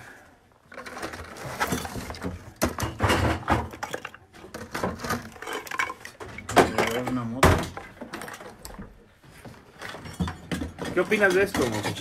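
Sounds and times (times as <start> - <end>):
hard objects clattering and knocking: 0.6 - 12.0.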